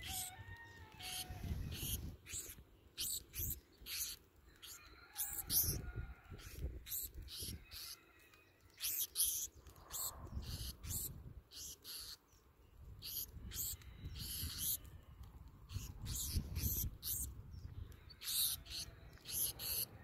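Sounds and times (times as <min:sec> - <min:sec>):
sparrows chip calls: 0:00.0 - 0:20.0.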